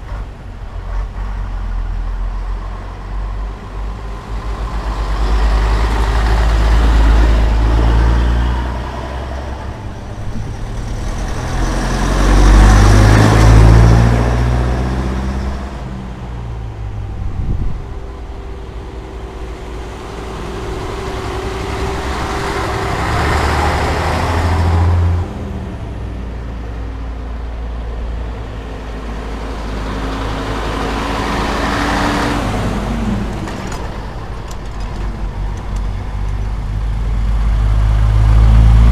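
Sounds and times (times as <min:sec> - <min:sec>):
trucks driving past: 0:00.0 - 0:38.9.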